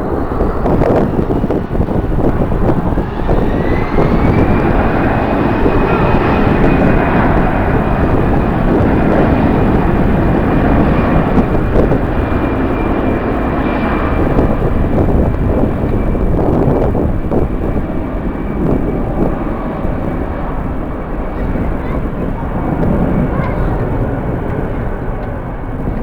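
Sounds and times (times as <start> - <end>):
jet engines spooling up: 0.0 - 26.0.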